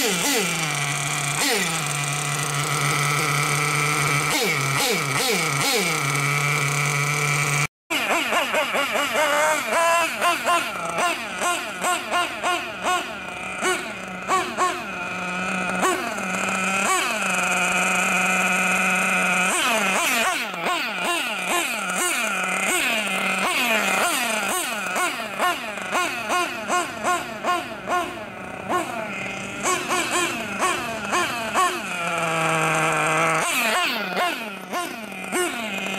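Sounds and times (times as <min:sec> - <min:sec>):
nitro rc engine revving: 0:00.0 - 0:35.9.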